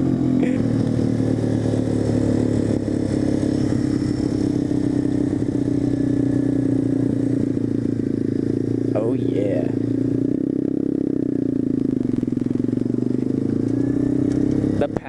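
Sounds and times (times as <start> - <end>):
pit bike engine running: 0.0 - 15.0.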